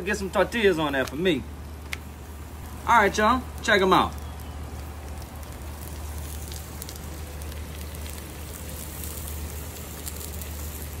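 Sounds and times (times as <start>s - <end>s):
steady low hum: 0.0s - 11.0s
food sizzling on griddle: 1.7s - 11.0s.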